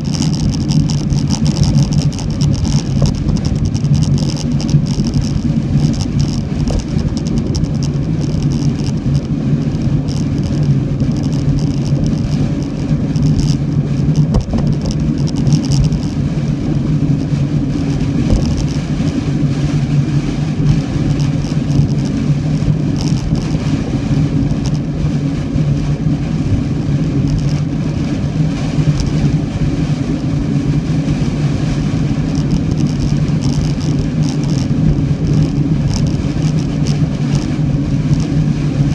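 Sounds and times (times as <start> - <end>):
car running low hum: 0.0 - 38.9.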